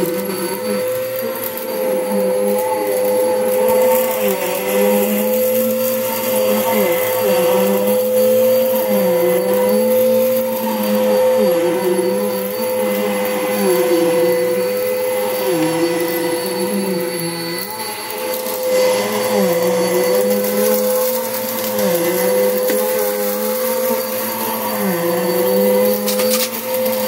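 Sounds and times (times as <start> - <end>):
vacuum cleaner on carpet: 0.0 - 27.0.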